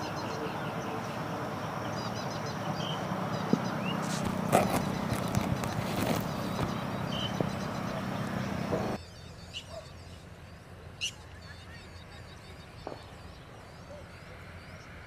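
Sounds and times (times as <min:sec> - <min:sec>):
small birds twittering: 0:00.0 - 0:15.0.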